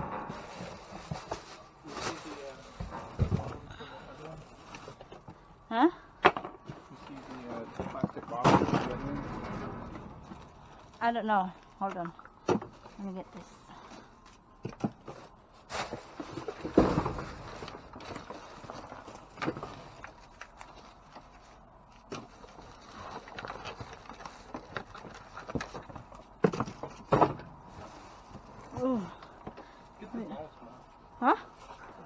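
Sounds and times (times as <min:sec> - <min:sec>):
plastic trash bags rustling: 0:00.0 - 0:05.3, 0:06.8 - 0:11.9, 0:15.0 - 0:32.0.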